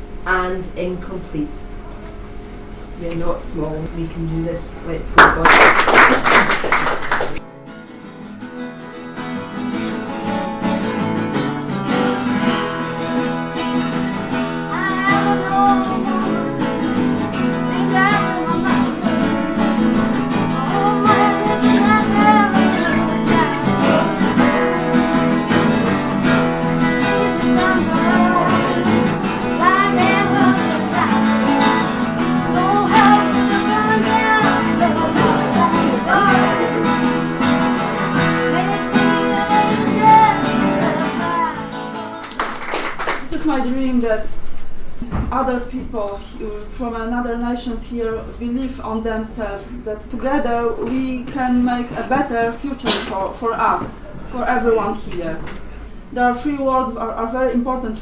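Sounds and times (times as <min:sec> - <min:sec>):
acoustic guitar accompaniment: 0:00.0 - 0:58.0.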